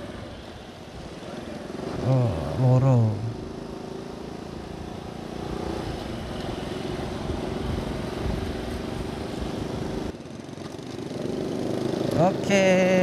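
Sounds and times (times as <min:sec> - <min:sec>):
road noise: 0:00.0 - 0:13.0
motorcycle engine running: 0:01.2 - 0:13.0.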